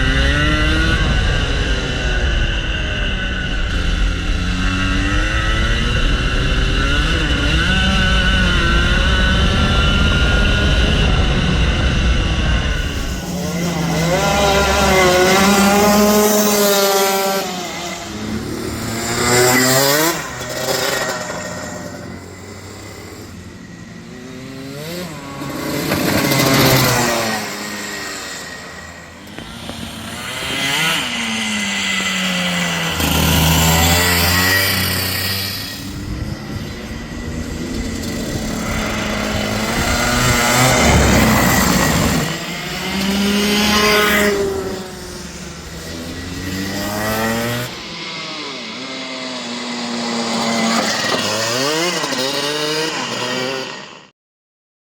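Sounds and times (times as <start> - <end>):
kart two-stroke engine revving: 0.0 - 54.1.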